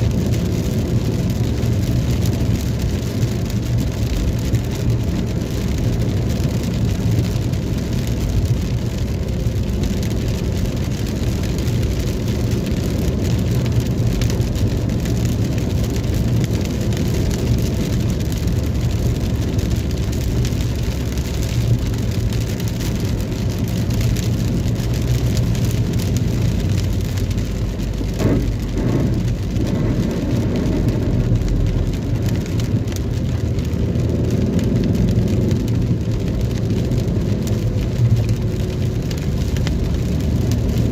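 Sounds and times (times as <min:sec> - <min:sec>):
low road and engine rumble: 0:00.0 - 0:40.9
rain on a moving car: 0:00.0 - 0:40.9.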